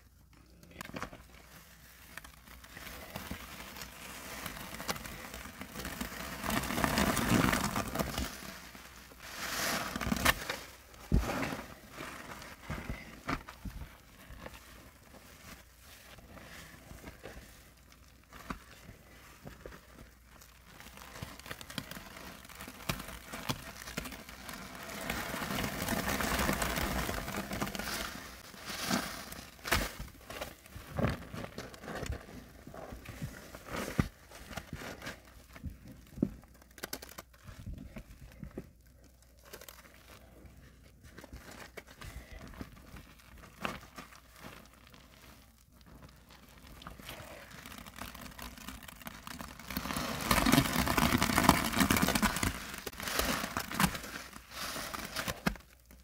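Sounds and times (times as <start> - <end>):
suds crackling and popping: 0.0 - 56.0.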